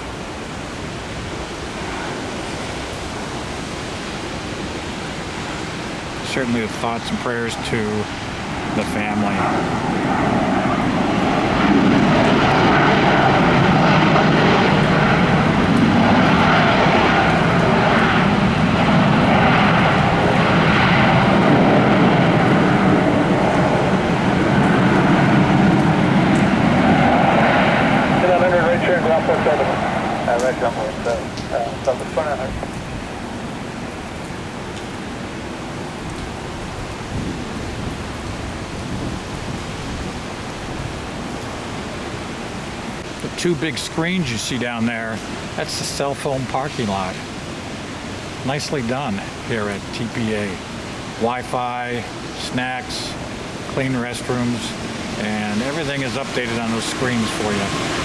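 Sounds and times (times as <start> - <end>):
airliner engines roaring: 0.0 - 58.0
heavy rain falling: 0.0 - 58.0.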